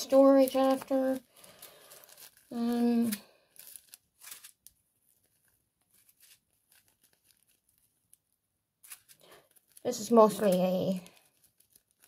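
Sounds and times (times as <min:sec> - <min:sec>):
plastic bags crinkling: 0:00.0 - 0:08.2, 0:08.8 - 0:12.0.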